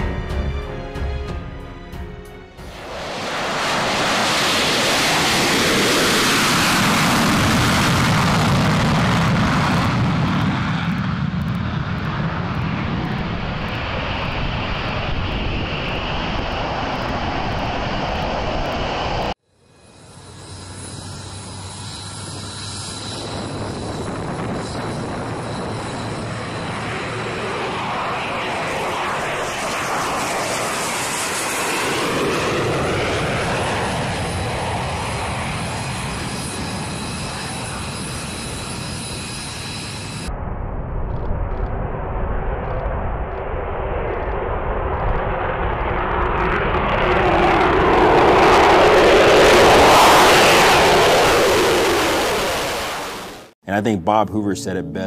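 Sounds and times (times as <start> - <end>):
high whining jet tones: 0.0 - 55.0
jet engine roar: 2.6 - 55.0.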